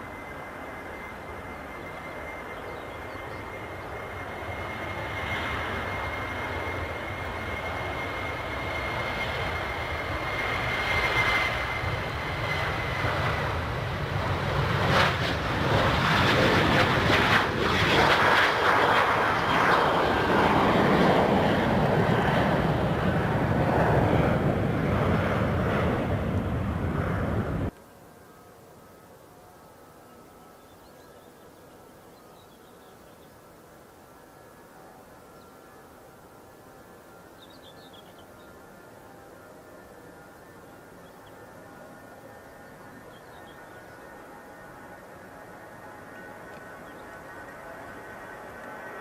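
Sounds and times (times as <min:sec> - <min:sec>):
jet engines passing: 0:00.0 - 0:27.8, 0:32.6 - 0:49.0.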